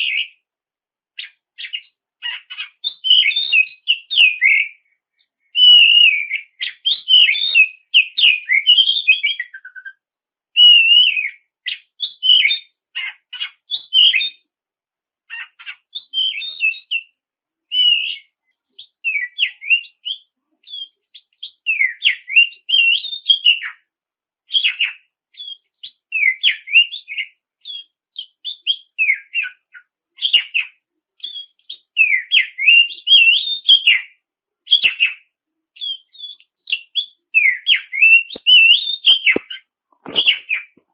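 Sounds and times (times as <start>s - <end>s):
bird singing: 0.0s - 0.4s, 1.2s - 14.5s, 15.3s - 23.9s, 24.5s - 40.8s.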